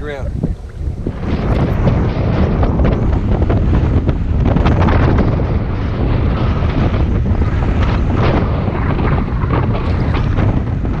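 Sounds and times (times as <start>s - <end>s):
wind buffeting the microphone: 0.0s - 11.0s.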